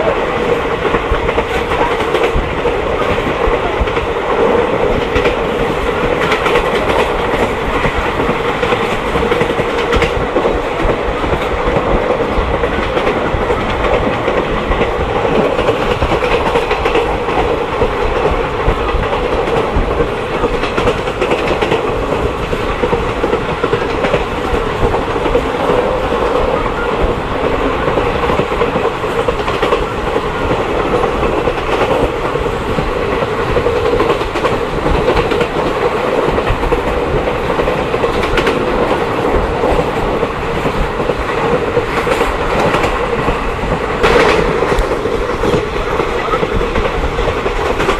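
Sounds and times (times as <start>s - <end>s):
train rumble: 0.0s - 47.9s
wheels clacking over rail joints: 0.0s - 47.9s.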